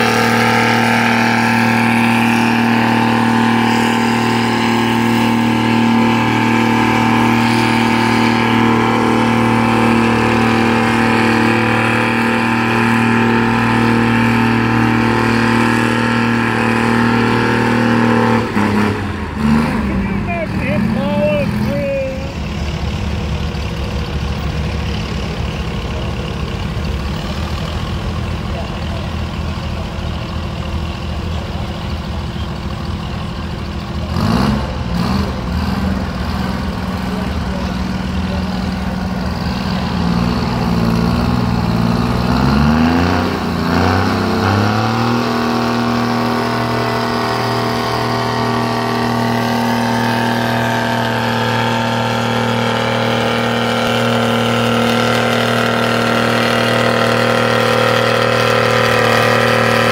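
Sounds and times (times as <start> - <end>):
tractor engine idling and revving: 0.0 - 59.9.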